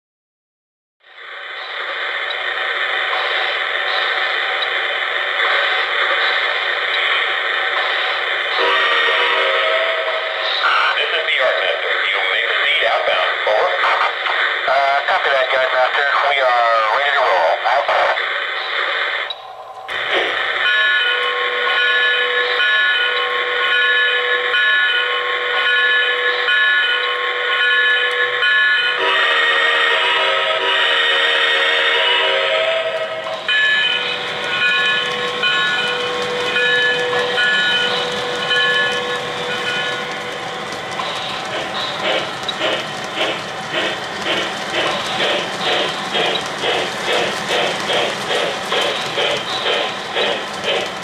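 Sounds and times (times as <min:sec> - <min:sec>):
simulated steam hiss: 0:01.1 - 0:19.3, 0:19.9 - 0:20.8, 0:29.0 - 0:51.0.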